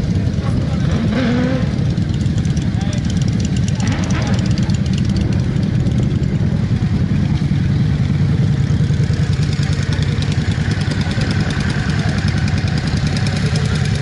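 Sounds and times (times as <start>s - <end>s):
motorcycle engines idling: 0.0s - 14.0s.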